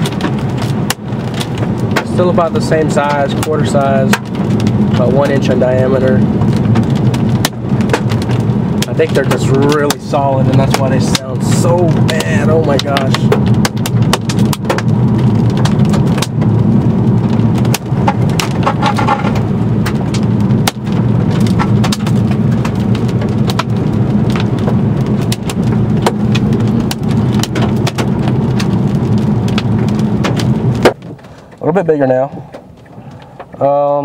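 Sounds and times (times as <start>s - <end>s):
hailstones hitting a car roof: 0.0s - 34.0s
roar of falling hail and rain: 0.0s - 34.0s.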